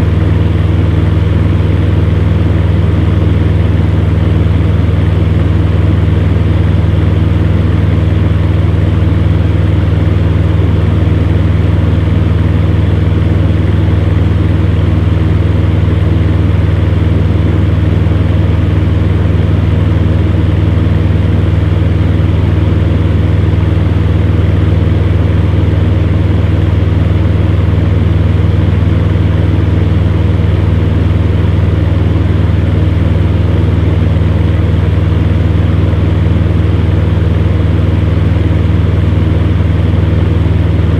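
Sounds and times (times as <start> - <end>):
fan heater motor hum: 0.0 - 40.9.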